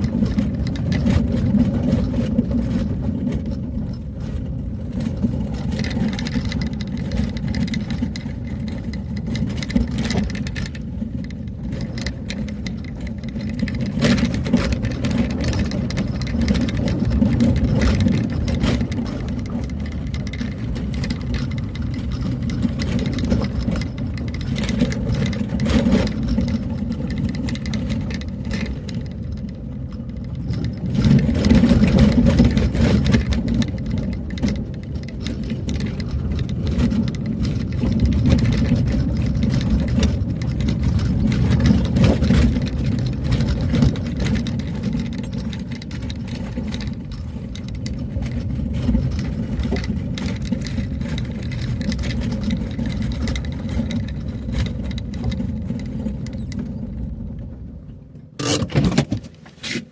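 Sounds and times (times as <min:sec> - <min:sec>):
knocks and rattles: 0:00.0 - 0:57.6
vehicle engine rumbling: 0:00.0 - 0:59.9.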